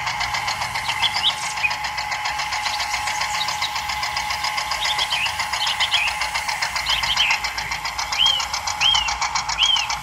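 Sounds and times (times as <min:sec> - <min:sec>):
toy tractor engine chugging: 0:00.0 - 0:10.0.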